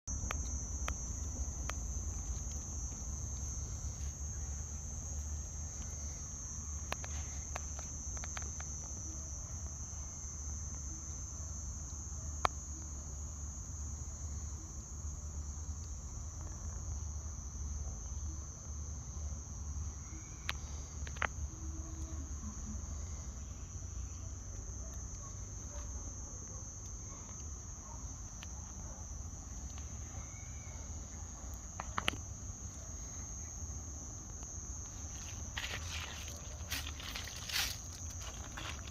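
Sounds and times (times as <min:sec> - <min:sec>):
high-pitched insect chorus: 0:00.1 - 0:38.9.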